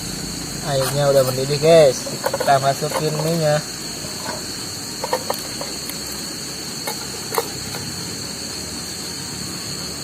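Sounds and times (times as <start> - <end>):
water boiling in a pot: 0.0 - 8.8
camping stove hissing: 0.0 - 10.0
night insects chorus: 0.0 - 10.0.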